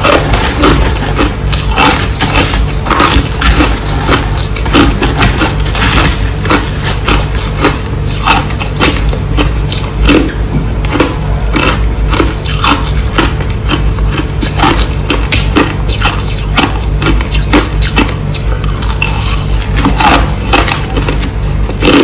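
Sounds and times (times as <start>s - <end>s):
crushed ice being chewed: 0.0s - 22.0s.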